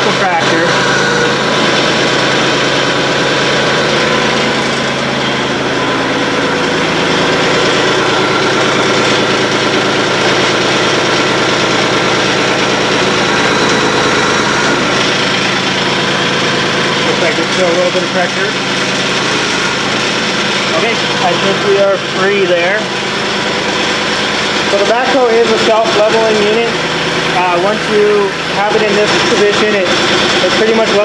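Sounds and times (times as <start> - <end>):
backhoe hydraulics working: 0.0 - 31.0
tractor diesel engine running: 0.0 - 31.0.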